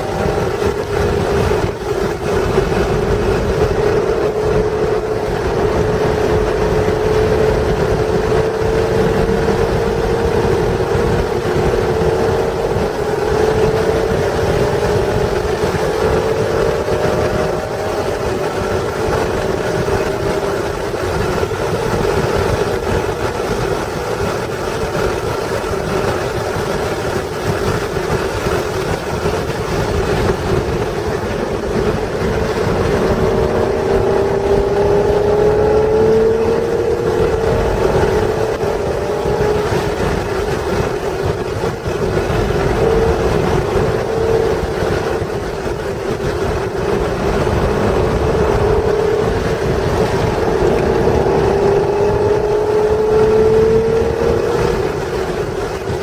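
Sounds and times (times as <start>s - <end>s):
car engine running hard: 0.0s - 56.0s
road noise: 0.0s - 56.0s
wind noise: 0.0s - 56.0s.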